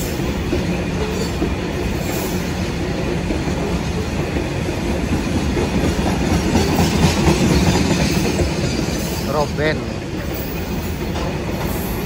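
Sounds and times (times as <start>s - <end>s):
train wheels rumbling and clacking: 0.0s - 12.0s.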